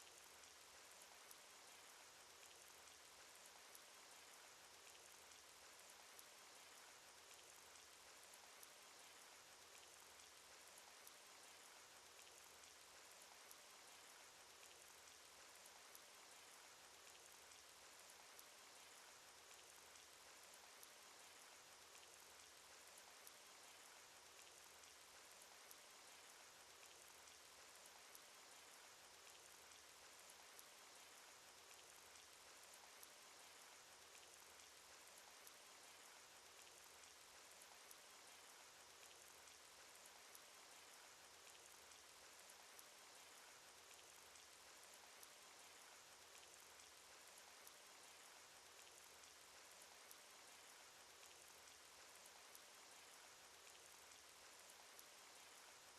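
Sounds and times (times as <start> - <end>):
rain hiss: 0.0 - 55.9
raindrop ticks: 0.0 - 55.9.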